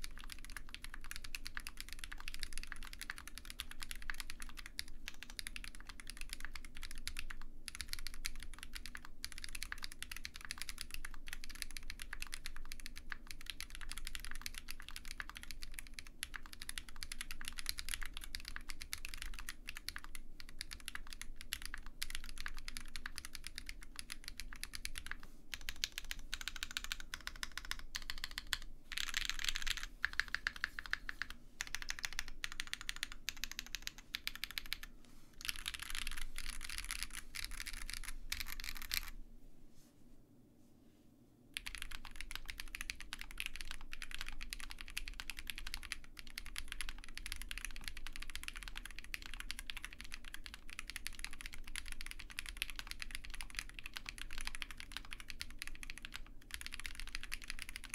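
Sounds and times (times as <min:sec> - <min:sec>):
mechanical keyboard typing: 0:00.0 - 0:39.2, 0:41.6 - 0:57.9.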